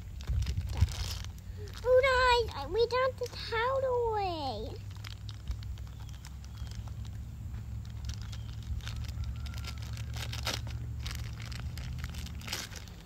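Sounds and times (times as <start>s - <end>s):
plastic wrapping crinkling: 0.0s - 4.0s, 4.6s - 13.0s
steady low rumble: 0.0s - 13.0s.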